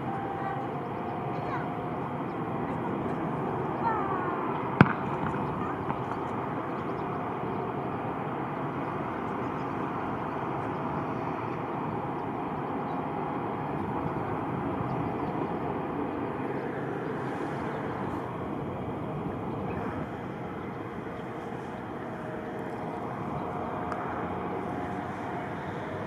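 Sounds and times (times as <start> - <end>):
aircraft engine noise: 0.0 - 26.0.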